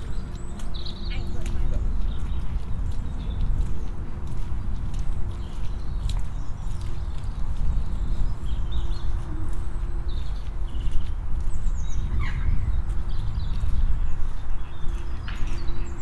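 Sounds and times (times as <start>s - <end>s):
footsteps on muddy path: 0.0s - 16.0s.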